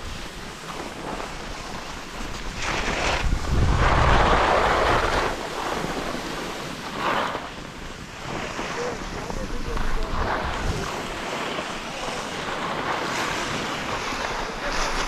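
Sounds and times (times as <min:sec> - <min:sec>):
wind gusting across microphone: 0:00.0 - 0:15.0.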